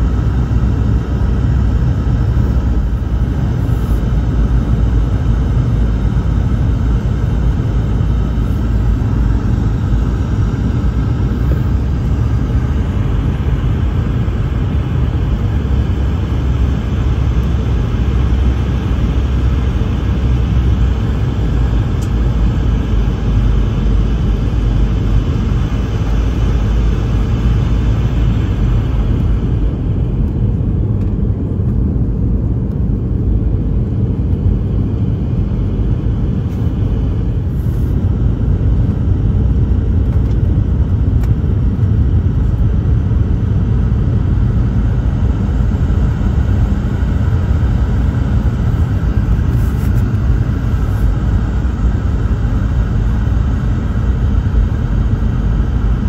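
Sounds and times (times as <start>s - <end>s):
jet airliner engine rumble: 0.0s - 56.0s.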